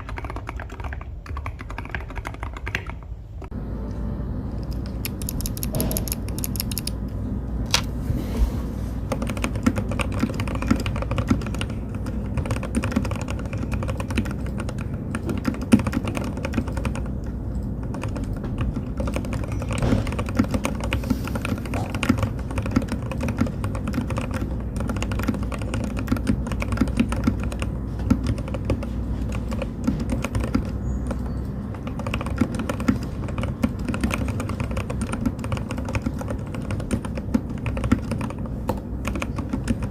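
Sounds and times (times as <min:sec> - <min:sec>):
fast typing on mechanical keyboard: 0:00.0 - 0:03.1, 0:04.7 - 0:07.0, 0:09.1 - 0:39.9.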